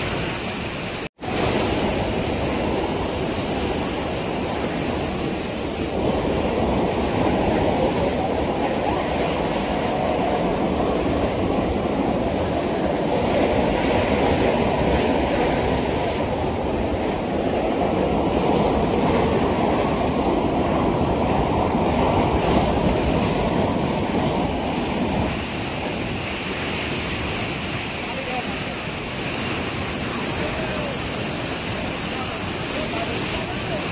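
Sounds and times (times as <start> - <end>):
floodwater rushing in a stream: 0.0 - 33.9.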